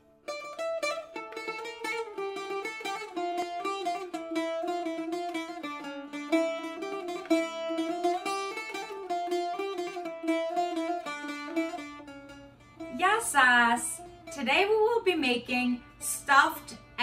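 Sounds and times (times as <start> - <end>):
plucked string instrument melody: 0.0 - 17.0.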